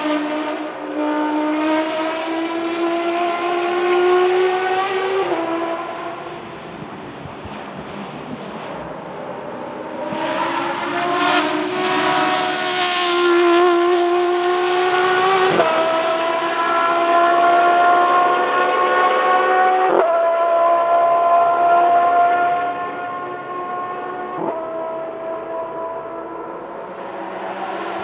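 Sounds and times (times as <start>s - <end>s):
race car engine at full throttle: 0.0s - 28.0s.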